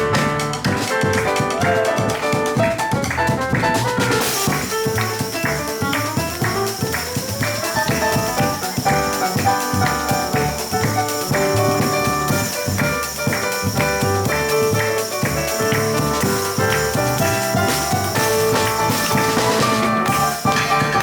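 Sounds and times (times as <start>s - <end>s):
double bass: 0.0s - 21.0s
drum kit: 0.0s - 21.0s
quick piano runs: 0.0s - 21.0s.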